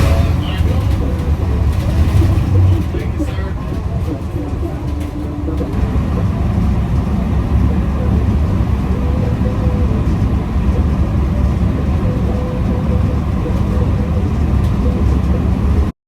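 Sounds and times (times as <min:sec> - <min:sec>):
vehicle engine and road noise: 0:00.0 - 0:15.9.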